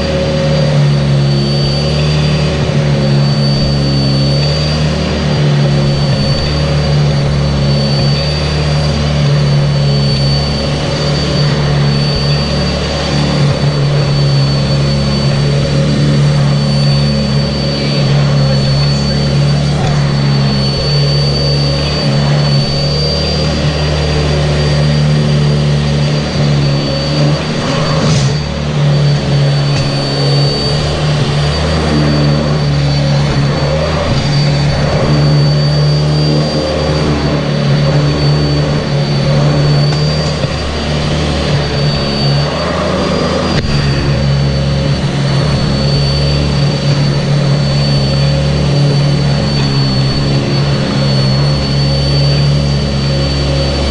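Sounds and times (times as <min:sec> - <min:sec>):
upright vacuum cleaner running: 0:00.0 - 0:53.9.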